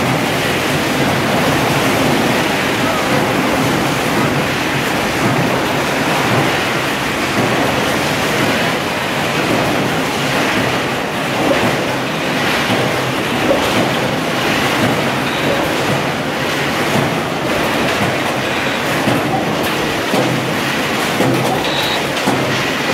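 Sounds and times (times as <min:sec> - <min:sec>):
production line machinery noise: 0:00.0 - 0:22.9.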